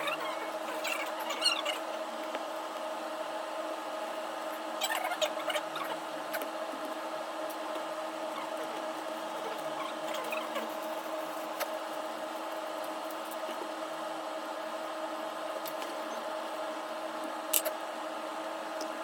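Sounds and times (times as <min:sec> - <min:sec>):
appliance electrical hum: 0:00.0 - 0:19.0.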